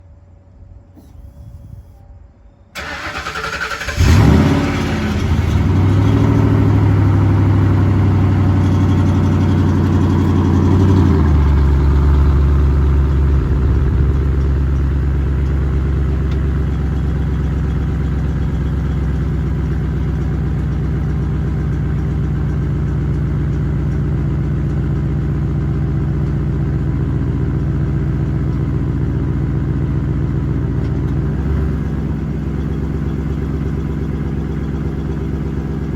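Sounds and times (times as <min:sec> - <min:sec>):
car engine revving and idling: 0:02.8 - 0:35.9.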